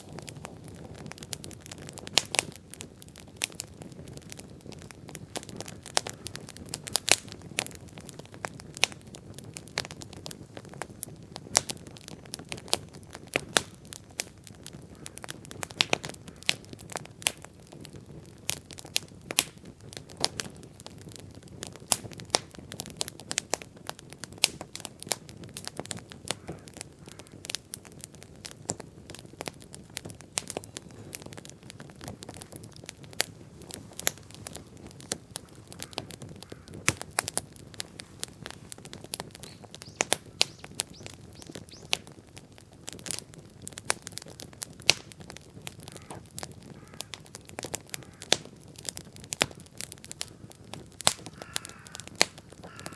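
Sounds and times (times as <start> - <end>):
bonfire crackling: 0.0 - 52.9.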